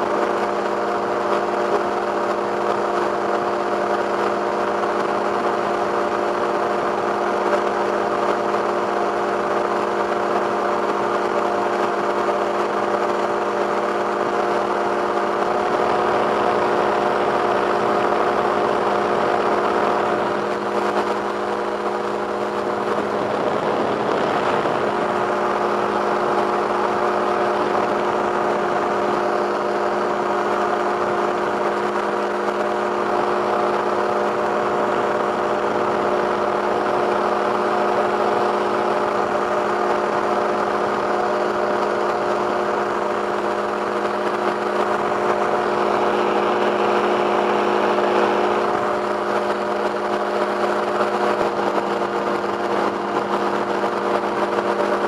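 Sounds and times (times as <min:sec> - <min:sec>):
two-stroke aircraft engine drone: 0:00.0 - 0:55.0.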